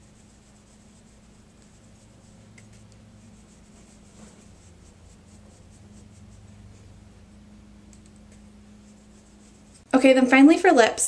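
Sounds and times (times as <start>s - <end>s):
makeup brush scratchy strokes: 0.0s - 10.8s
steady low hum: 0.0s - 10.8s.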